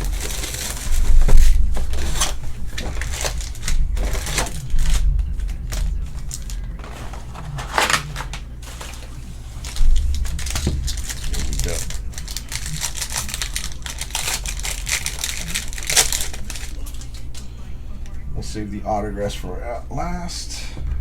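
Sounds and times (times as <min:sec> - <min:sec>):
cardboard and foil wrappers crinkling: 0:00.0 - 0:19.5
steady low hum: 0:00.0 - 0:21.0.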